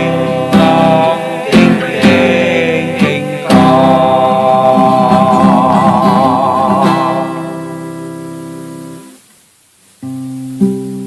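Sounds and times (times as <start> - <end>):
acoustic guitar chord ringing: 0.0 - 9.2.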